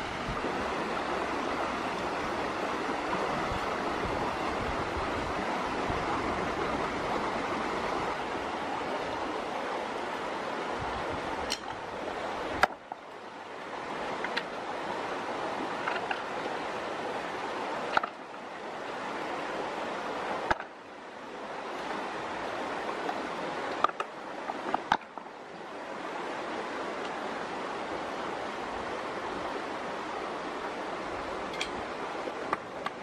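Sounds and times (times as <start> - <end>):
rushing of flowing water: 0.0 - 33.0.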